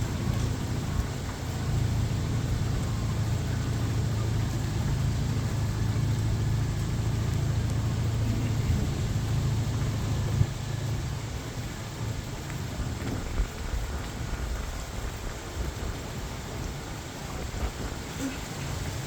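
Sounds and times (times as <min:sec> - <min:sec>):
broad rushing noise: 0:00.0 - 0:19.0
engine running: 0:00.0 - 0:19.0.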